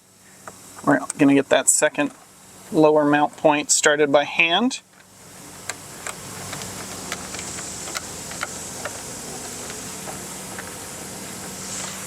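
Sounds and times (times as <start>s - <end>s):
faint hiss: 0.0s - 12.0s
steady hum: 0.0s - 12.0s.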